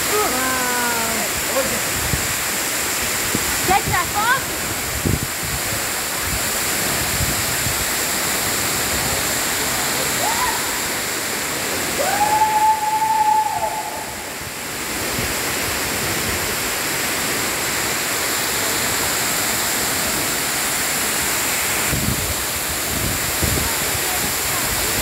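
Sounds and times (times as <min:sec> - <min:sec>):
waterfall rushing into pool: 0:00.0 - 0:25.0.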